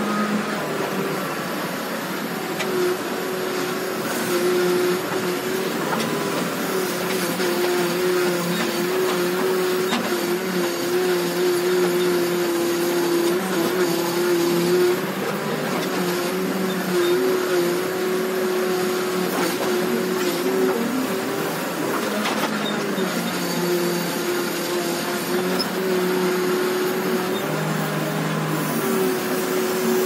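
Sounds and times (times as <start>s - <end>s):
backhoe engine and hydraulics: 0.0s - 30.0s.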